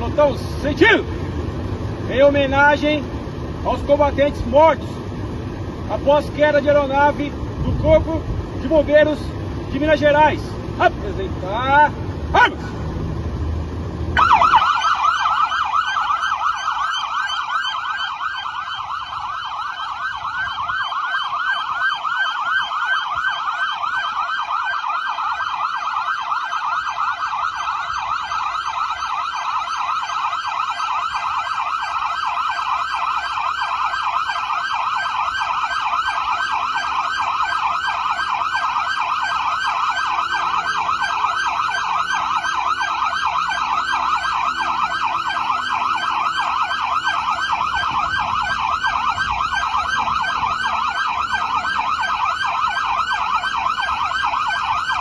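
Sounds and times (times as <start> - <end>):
police sirens yelping: 0.0 - 13.2, 14.0 - 55.0.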